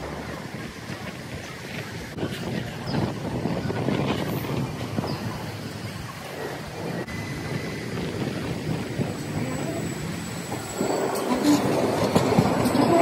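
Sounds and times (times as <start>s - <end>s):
street and traffic noise: 0.0s - 13.0s
wind buffeting microphone: 0.0s - 13.0s.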